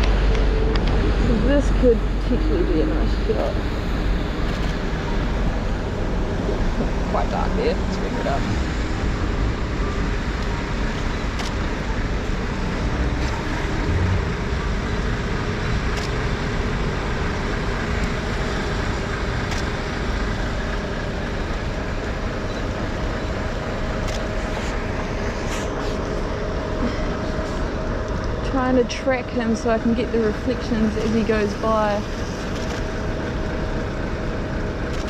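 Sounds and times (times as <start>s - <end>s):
faint engine hum: 0.0s - 35.0s
traffic on wet street: 0.0s - 35.0s.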